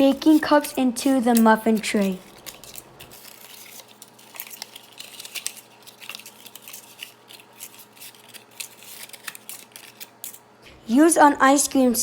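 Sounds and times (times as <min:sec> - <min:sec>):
paper baking cups crinkling: 0:00.0 - 0:10.5.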